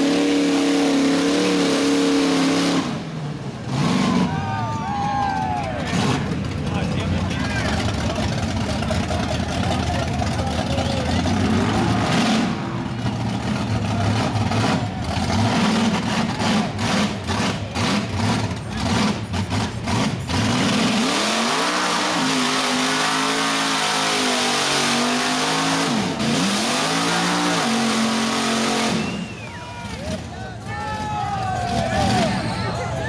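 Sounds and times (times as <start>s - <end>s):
truck engine revving hard: 0.0s - 30.4s, 31.5s - 33.0s.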